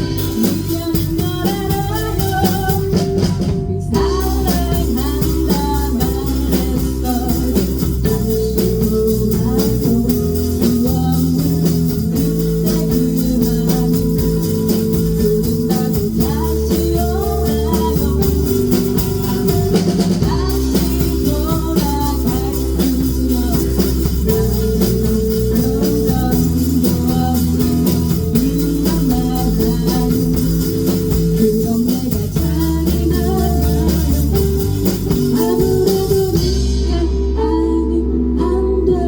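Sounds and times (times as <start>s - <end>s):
drum kit: 0.0s - 38.3s
bass guitar: 0.0s - 39.0s
electric guitar: 0.0s - 39.0s.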